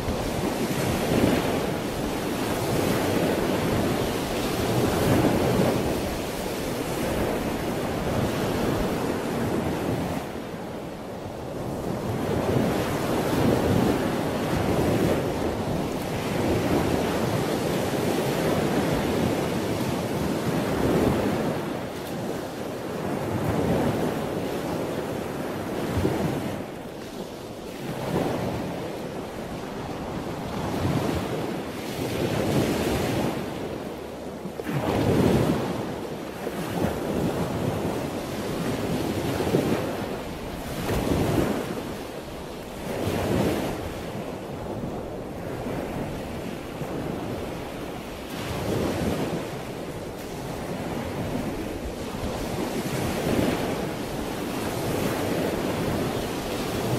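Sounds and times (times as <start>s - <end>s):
ocean surf washing in: 0.0s - 56.9s.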